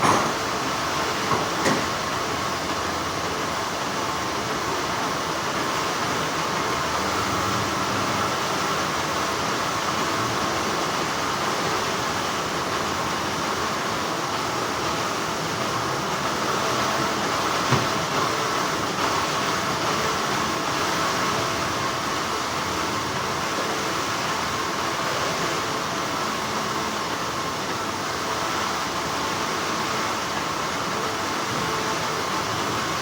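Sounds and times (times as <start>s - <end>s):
factory machinery hum: 0.0s - 33.0s.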